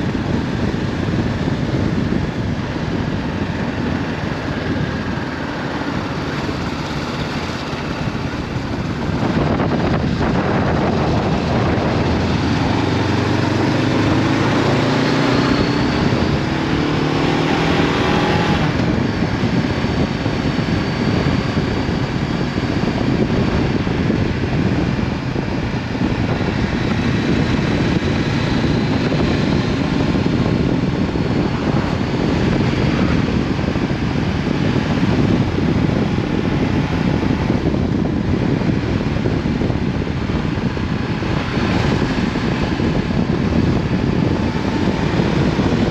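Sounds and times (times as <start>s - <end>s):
motorcycle engine accelerating: 0.0s - 45.9s
wind rush on microphone: 0.0s - 45.9s.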